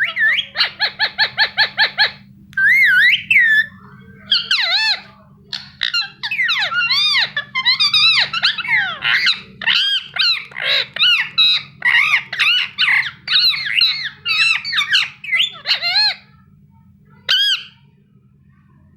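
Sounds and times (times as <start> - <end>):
parakeet chirping: 0.0 - 16.3, 17.2 - 17.8.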